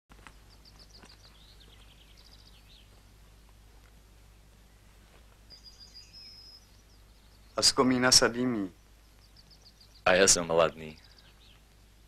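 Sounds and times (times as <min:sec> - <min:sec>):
low hum and hiss: 0:00.1 - 0:12.0
songbird chirping: 0:00.1 - 0:12.0.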